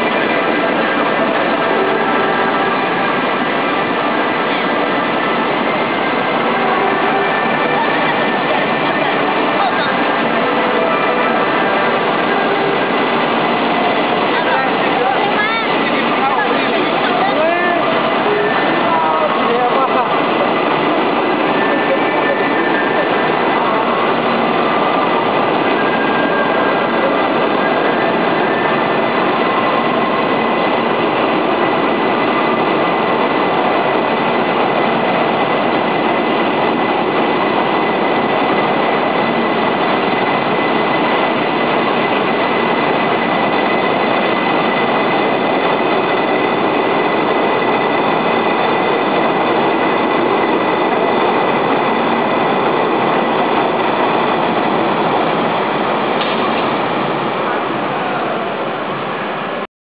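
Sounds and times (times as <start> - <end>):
electric train rushing: 0.0 - 59.6
high train whine: 0.0 - 59.7.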